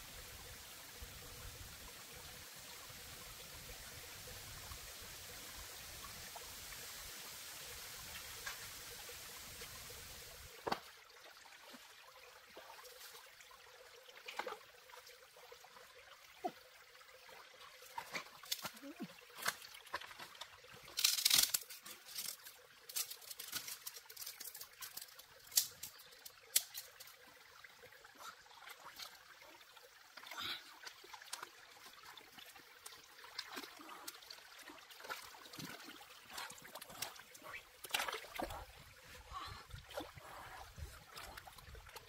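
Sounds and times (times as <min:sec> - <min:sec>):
water trickling and splashing: 0:00.0 - 0:42.0.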